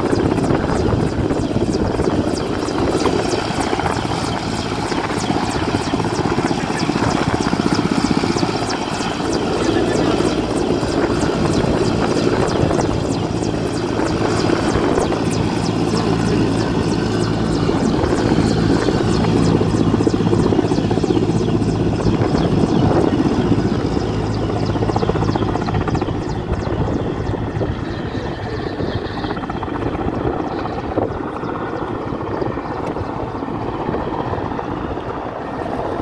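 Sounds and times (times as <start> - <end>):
helicopter rotor beating: 0.0 - 36.0
helicopter turbines running: 0.0 - 36.0.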